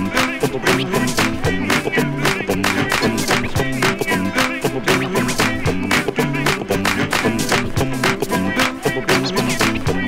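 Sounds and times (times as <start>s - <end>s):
swing music from turntables: 0.0s - 10.0s
ukulele playing: 0.0s - 10.0s.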